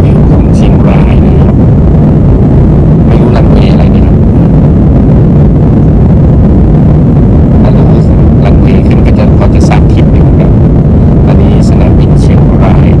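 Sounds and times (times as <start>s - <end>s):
airplane cabin jet engine roar: 0.0s - 13.0s.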